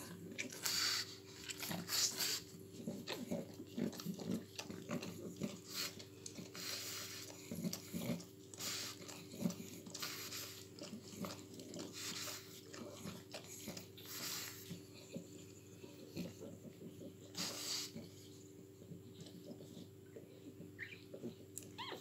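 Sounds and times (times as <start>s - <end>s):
dog licking puppies: 0.0s - 22.0s.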